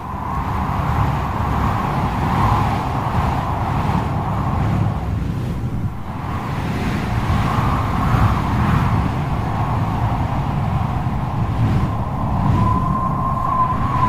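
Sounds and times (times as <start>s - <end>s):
deep rumble of gusts: 0.0s - 14.0s
wind howling and whistling: 0.0s - 14.0s.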